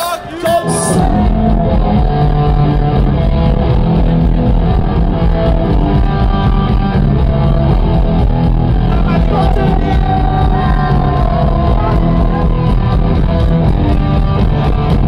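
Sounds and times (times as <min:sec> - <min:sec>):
punk rock band playing live: 0:00.0 - 0:15.0.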